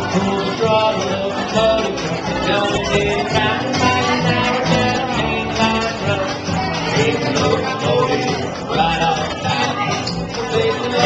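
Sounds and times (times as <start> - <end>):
acoustic guitar plucked: 0.0 - 11.0
jug band playing: 0.0 - 11.0.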